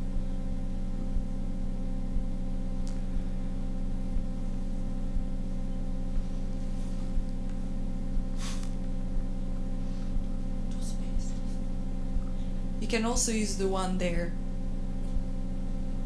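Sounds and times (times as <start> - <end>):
electrical hum from sound system: 0.0 - 16.0.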